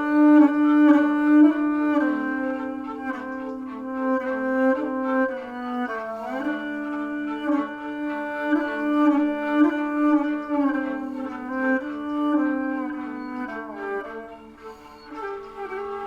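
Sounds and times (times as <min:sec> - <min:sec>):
bowed strings sustained notes: 0:00.0 - 0:16.0.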